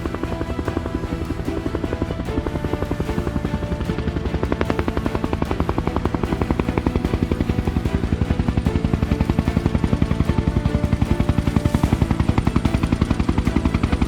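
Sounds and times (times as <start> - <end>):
background music: 0.0 - 14.0
helicopter rotor beating: 0.0 - 14.0.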